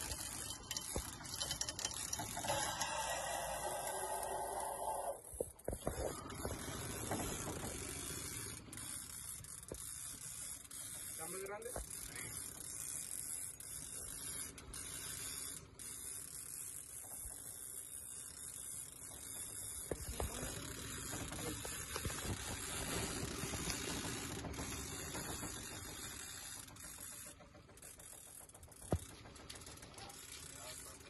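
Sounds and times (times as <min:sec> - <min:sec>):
fishing reels cranking: 0:00.0 - 0:31.0.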